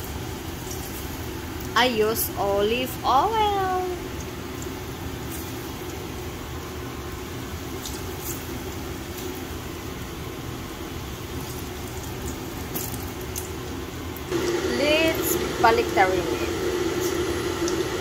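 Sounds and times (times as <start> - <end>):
bananas sizzling in oil: 0.0 - 18.0.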